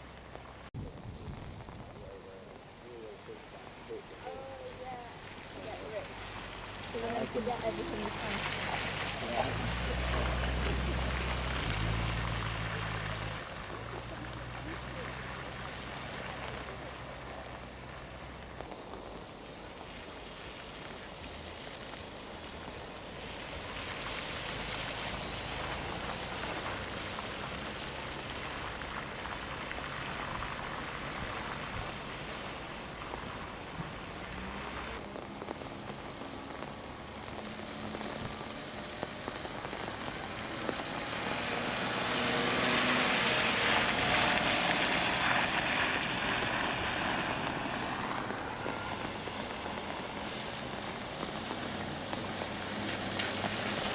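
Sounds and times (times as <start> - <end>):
car engines running: 0.0 - 53.9
tyres splashing through water: 0.0 - 53.9.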